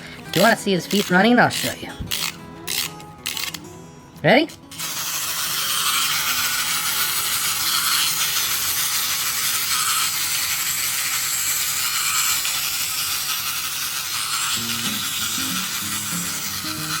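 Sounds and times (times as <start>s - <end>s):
clockwork toy whirring rattle: 0.3s - 3.6s, 4.7s - 17.0s.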